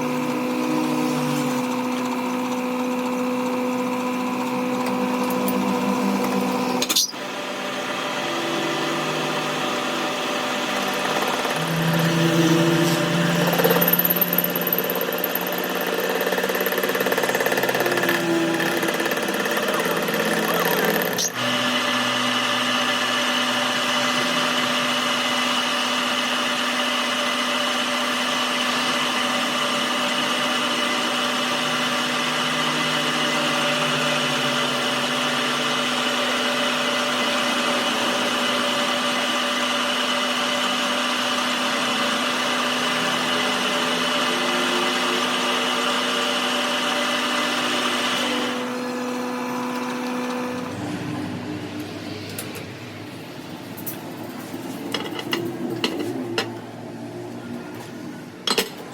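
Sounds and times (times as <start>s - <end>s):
power tool whining hum: 0.0s - 53.8s.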